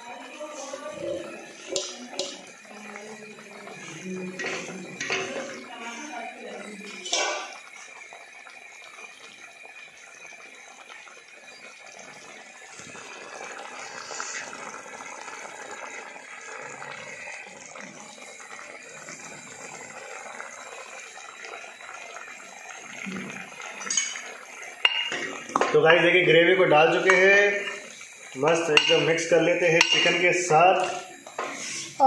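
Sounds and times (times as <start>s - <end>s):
gravy sizzling in pot: 0.0s - 32.0s.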